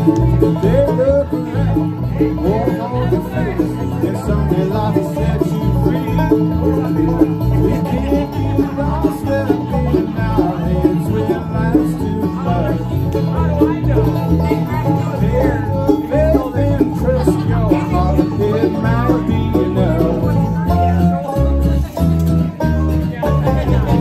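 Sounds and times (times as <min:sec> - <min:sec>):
acoustic guitar: 0:00.0 - 0:24.0
banjo: 0:00.0 - 0:24.0
electric bass: 0:00.0 - 0:24.0
mandolin: 0:00.0 - 0:24.0.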